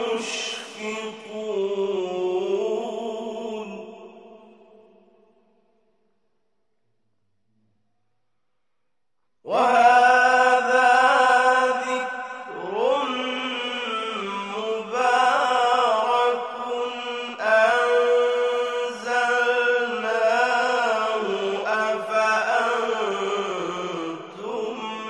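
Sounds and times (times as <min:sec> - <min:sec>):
man chanting melodically: 0:00.0 - 0:04.8, 0:09.5 - 0:25.0.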